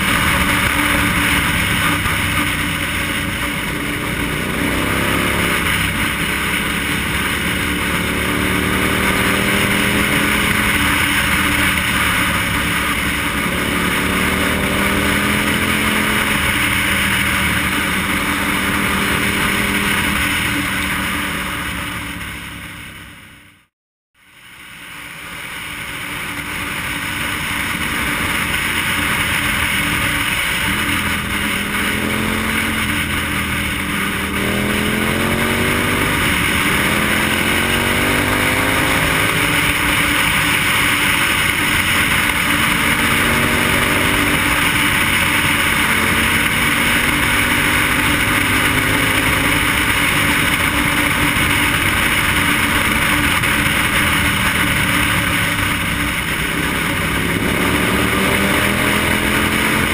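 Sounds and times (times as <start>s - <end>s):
motorcycle engine accelerating: 0.0s - 23.7s, 24.7s - 59.9s.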